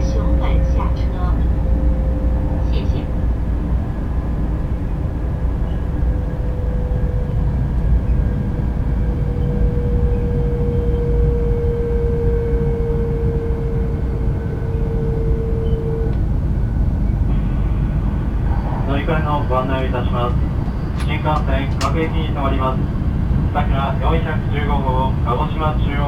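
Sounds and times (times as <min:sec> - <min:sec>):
train interior rumble: 0:00.0 - 0:26.0.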